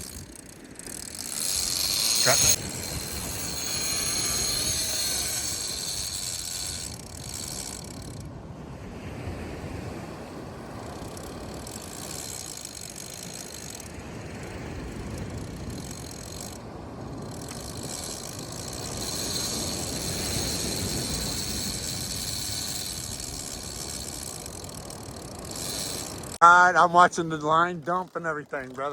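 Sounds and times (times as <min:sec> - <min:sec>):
fishing reel drag running: 0:00.0 - 0:08.4, 0:10.6 - 0:28.9.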